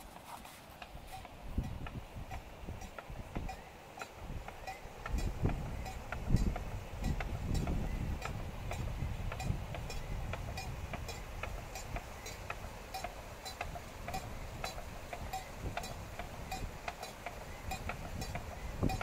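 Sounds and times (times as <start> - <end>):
cowbells clanking: 1.1 - 19.0.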